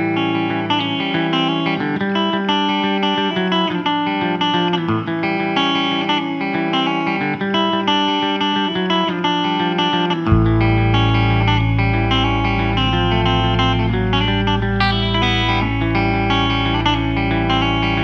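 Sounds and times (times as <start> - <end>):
electric guitar picking notes: 0.0 - 18.0.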